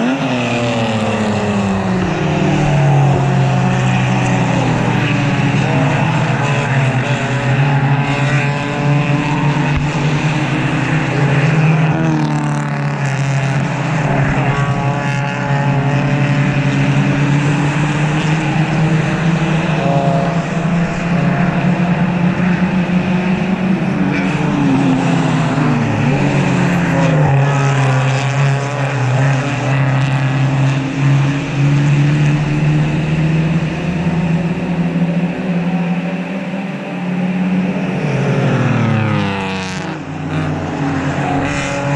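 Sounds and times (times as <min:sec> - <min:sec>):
race cars passing at speed: 0:00.0 - 0:41.9.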